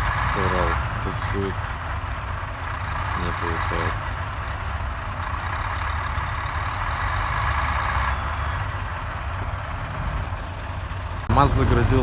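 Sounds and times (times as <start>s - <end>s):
heavy truck diesel engine straining: 0.0s - 12.0s.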